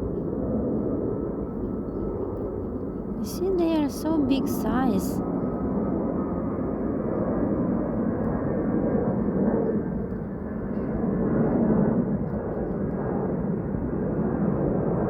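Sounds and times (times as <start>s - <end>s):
airplane flying over: 0.0s - 15.0s.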